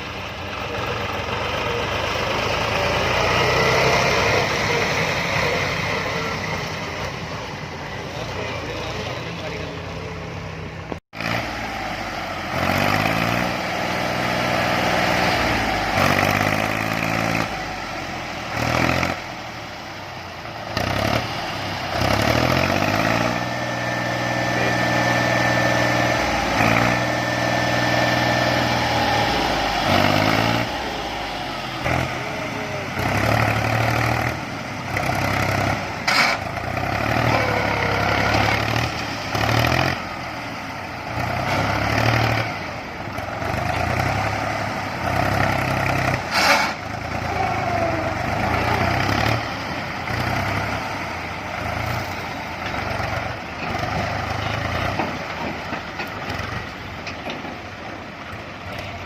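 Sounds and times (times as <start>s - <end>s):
tractor diesel engine revving: 0.0s - 59.0s.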